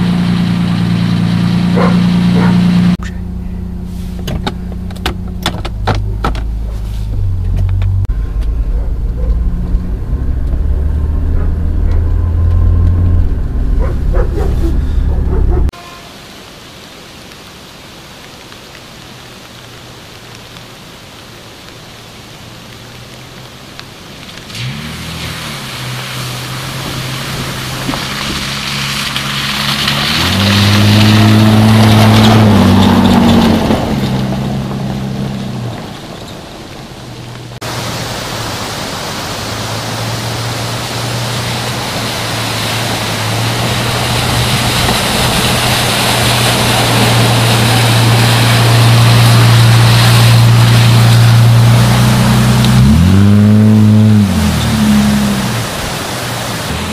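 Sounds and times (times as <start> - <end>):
car engine accelerating: 0.0 - 15.8, 24.4 - 56.9
tyres splashing through water: 0.0 - 56.9.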